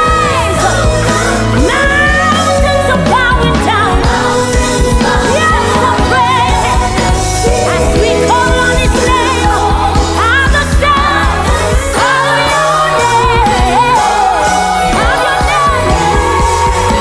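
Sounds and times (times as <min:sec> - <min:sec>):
band playing worship music: 0:00.0 - 0:17.0
steady bass: 0:00.0 - 0:17.0
women singing into microphones: 0:00.0 - 0:17.0.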